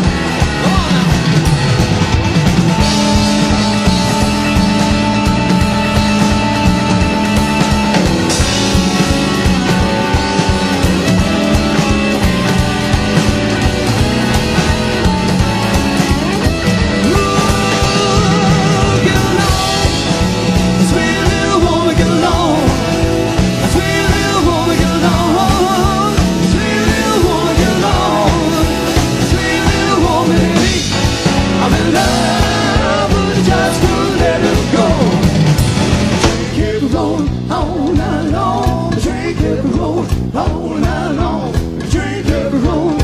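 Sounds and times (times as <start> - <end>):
keyboard playing: 0.0 - 39.3
drums beating: 0.0 - 43.0
electric guitar: 0.0 - 43.0.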